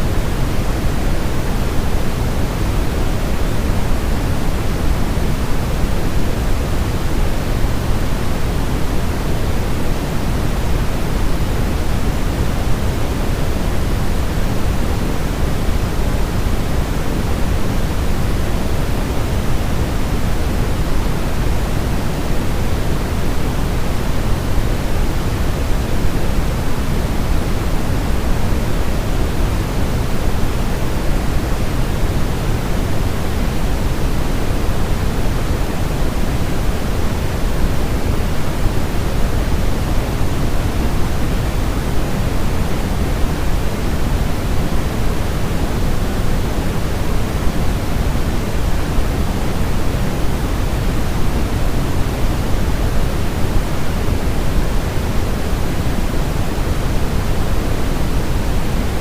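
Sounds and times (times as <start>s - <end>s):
deep white noise: 0.0s - 59.0s.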